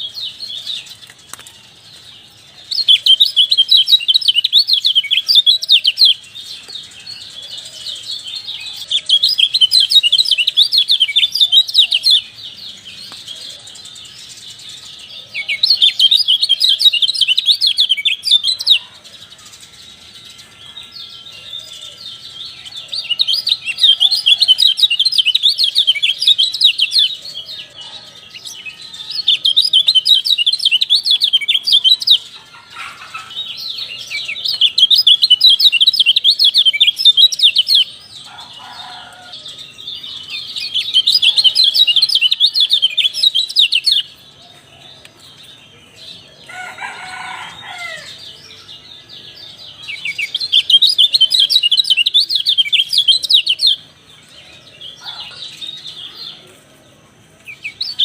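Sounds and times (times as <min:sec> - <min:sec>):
songbird chattering song: 0:00.0 - 0:58.0.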